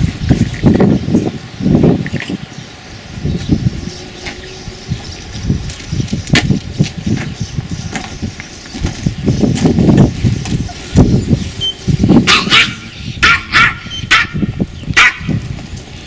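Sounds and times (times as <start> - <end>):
rumbling and rustling on microphone: 0.0 - 16.0.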